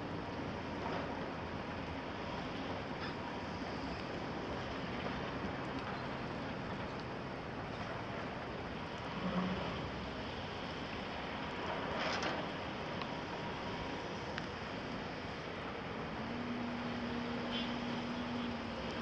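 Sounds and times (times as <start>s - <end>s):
distant machinery engine rumble: 0.0s - 19.0s.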